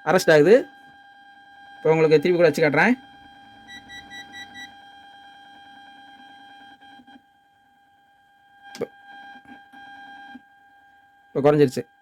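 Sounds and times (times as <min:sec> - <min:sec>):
high electrical whine from speaker: 0:00.0 - 0:12.0.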